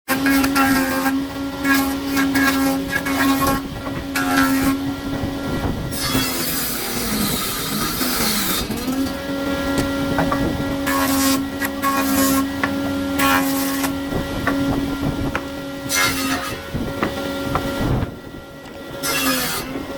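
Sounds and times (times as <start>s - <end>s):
saw cutting wood: 0.1s - 19.9s
woodworking machine motor humming: 0.1s - 19.9s.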